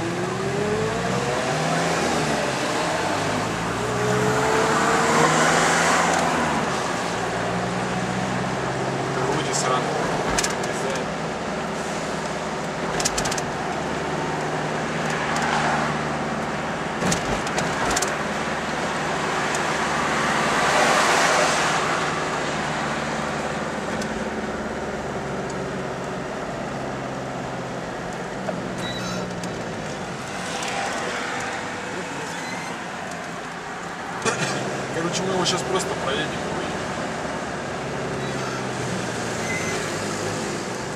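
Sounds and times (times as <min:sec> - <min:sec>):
car engine hum and road noise: 0:00.0 - 0:40.9.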